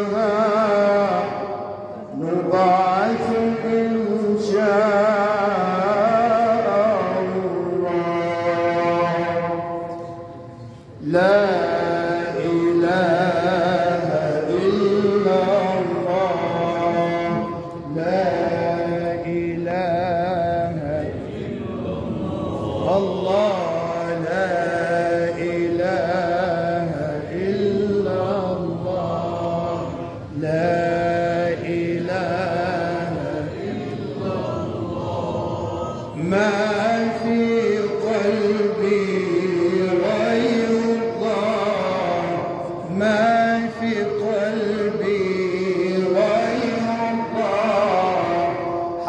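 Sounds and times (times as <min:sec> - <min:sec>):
man chanting: 0:00.0 - 0:49.0.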